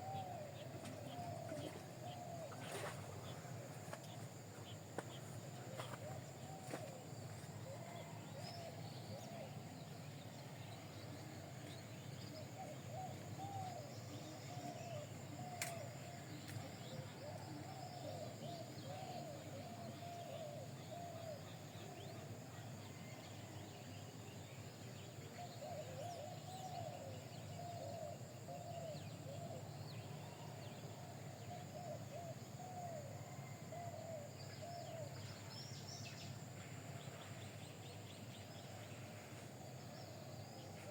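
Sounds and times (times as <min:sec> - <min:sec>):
steady background hum and hiss: 0:00.0 - 0:40.9.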